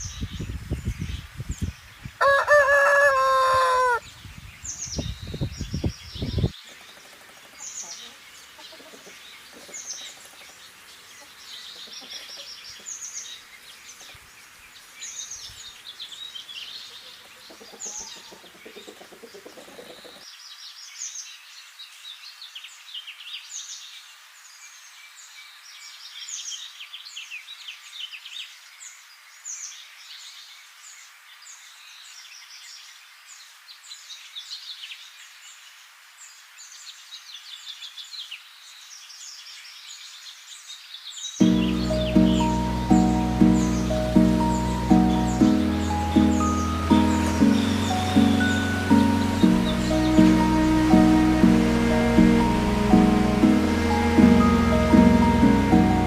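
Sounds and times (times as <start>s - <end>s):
small birds chirping: 0.0s - 2.4s, 3.1s - 56.0s.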